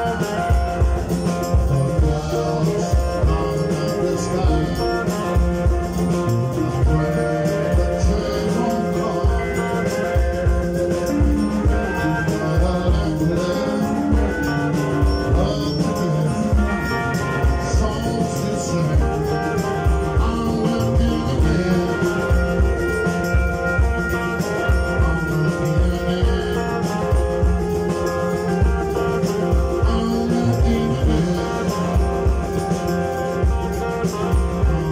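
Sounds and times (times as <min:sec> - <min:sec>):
drum kit beat: 0:00.0 - 0:34.9
electric bass: 0:00.0 - 0:34.9
electric guitars: 0:00.0 - 0:34.9
man singing lead vocal: 0:00.0 - 0:34.9.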